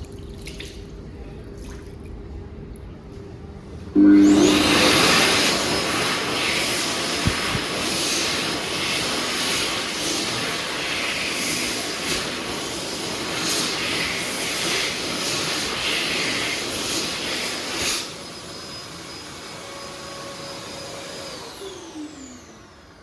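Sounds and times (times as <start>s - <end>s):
hand dryer rush of air: 4.0s - 23.0s.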